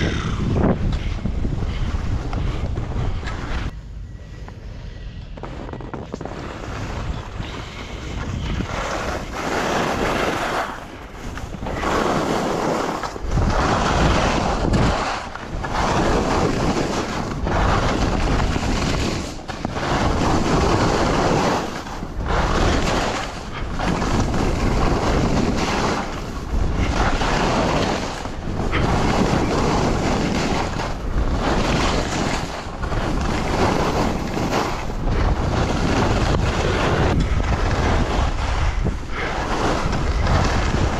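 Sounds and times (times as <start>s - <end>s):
wind buffeting microphone: 0.0s - 40.9s
skis scraping through snow: 0.1s - 3.8s, 5.4s - 40.9s.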